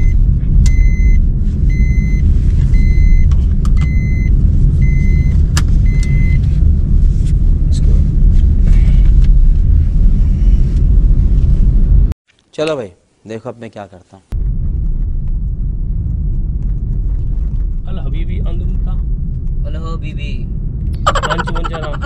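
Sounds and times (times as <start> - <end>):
car road noise rumble: 0.0 - 12.2, 14.3 - 22.0.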